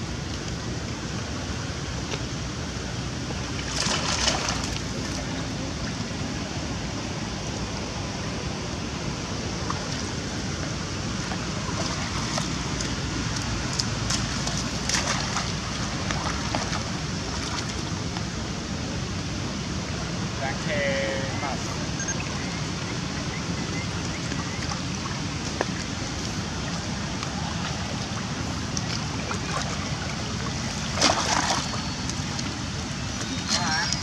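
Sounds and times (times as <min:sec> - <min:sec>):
outdoor noise hiss: 0:00.0 - 0:34.0
water splashing and sloshing: 0:00.0 - 0:34.0.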